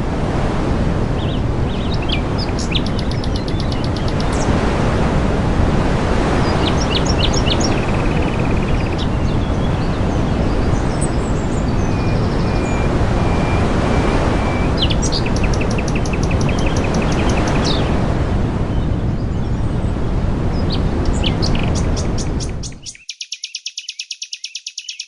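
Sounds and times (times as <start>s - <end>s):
steady rushing noise: 0.0s - 22.8s
songbirds chirping and trilling: 1.1s - 4.8s, 5.8s - 25.0s.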